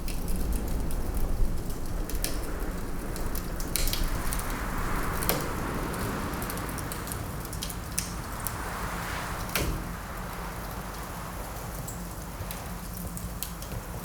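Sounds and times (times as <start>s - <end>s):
wind gusting: 0.0s - 13.6s
log fire crackling: 0.0s - 14.0s.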